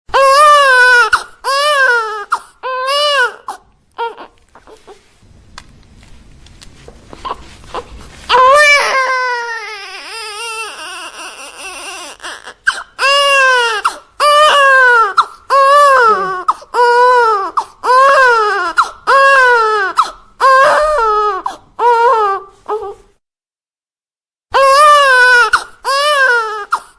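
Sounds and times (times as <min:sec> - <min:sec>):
infant crying: 0:00.1 - 0:05.0, 0:07.2 - 0:23.1, 0:24.5 - 0:26.9.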